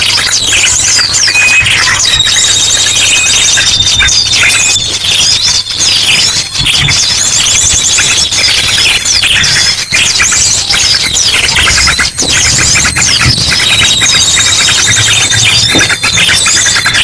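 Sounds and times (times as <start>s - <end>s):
small birds chirping and trilling: 0.0s - 17.0s
drongo call bursts: 1.8s - 17.0s.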